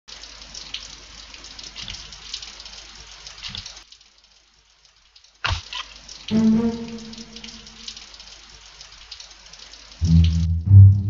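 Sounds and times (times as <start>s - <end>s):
rain pattering: 0.1s - 10.6s.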